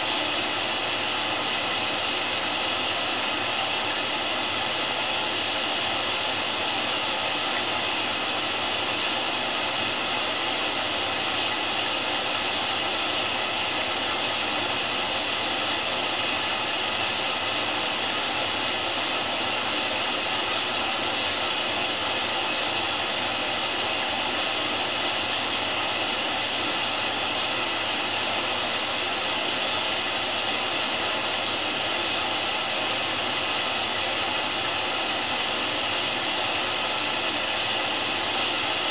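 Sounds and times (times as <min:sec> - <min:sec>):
washing machine hissing: 0:00.0 - 0:38.9.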